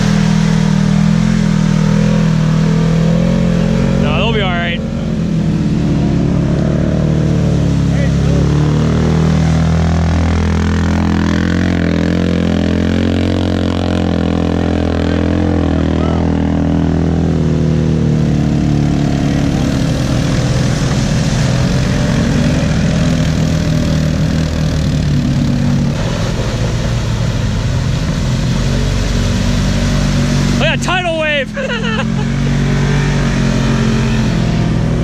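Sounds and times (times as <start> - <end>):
off-road vehicle engines: 0.0 - 35.0
water splashing: 0.0 - 35.0.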